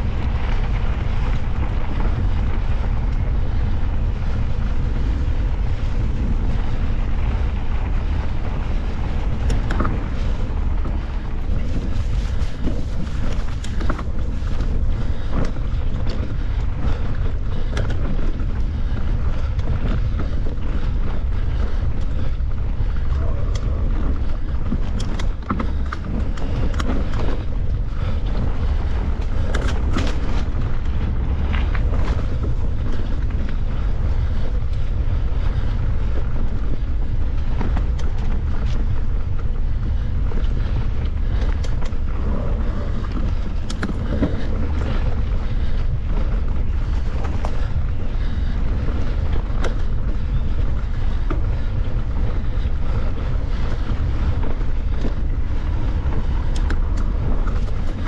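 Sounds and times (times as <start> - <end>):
bike clicks and rattles: 0.0 - 58.0
wind buffeting microphone: 0.0 - 58.0.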